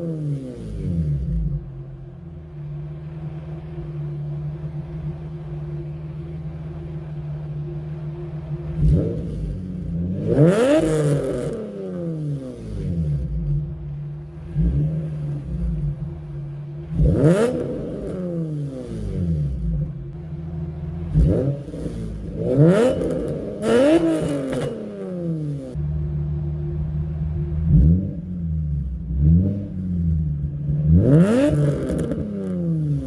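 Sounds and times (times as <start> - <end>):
car exhaust idling and revving: 0.0 - 33.0.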